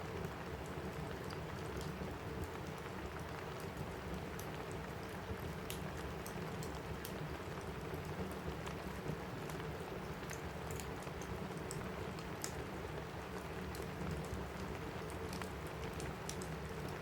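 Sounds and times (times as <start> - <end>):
rain on a roof: 0.0 - 17.0
wood fire crackling: 0.0 - 17.0.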